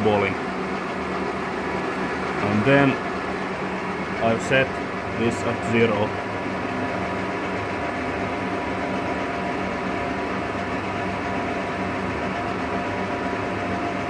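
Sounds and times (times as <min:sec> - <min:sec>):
milling machine drone: 0:00.0 - 0:14.0.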